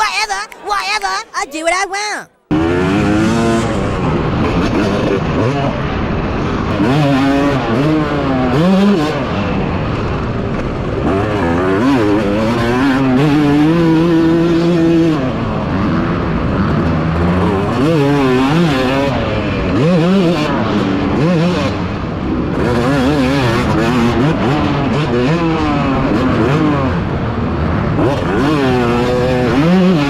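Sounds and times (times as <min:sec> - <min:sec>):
pit bike engines revving: 0:02.5 - 0:30.0.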